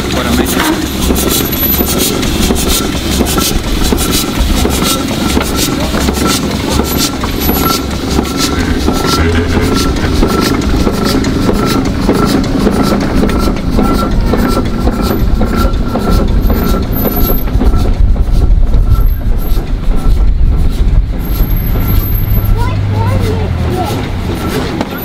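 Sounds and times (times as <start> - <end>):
iron wheels rumbling on road: 0.0 - 25.0
steam engine chuffing: 0.0 - 25.0.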